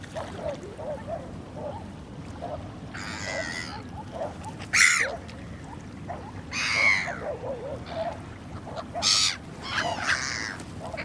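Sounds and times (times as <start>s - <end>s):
gulls calling: 0.4s - 11.0s.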